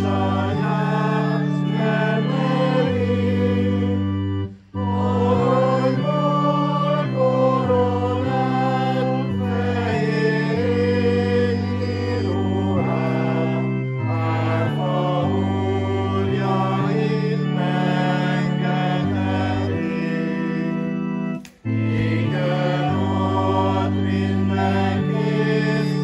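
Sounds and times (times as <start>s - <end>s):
congregation singing a hymn: 0.0s - 26.0s
organ chords: 0.0s - 26.0s.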